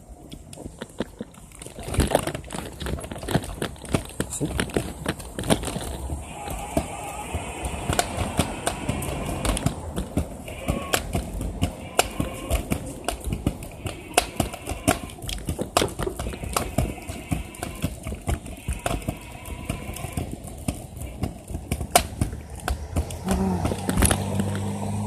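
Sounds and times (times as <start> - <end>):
scooter wheels clattering on concrete: 0.0 - 25.0.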